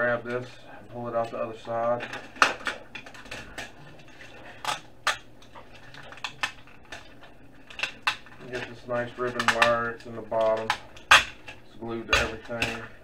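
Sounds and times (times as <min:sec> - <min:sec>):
sheet metal clinking and clattering: 0:01.8 - 0:13.0.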